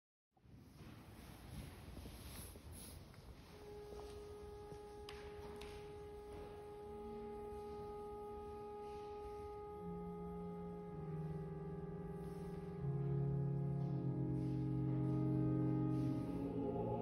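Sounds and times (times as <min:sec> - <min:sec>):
soft organ notes: 0:03.4 - 0:17.0.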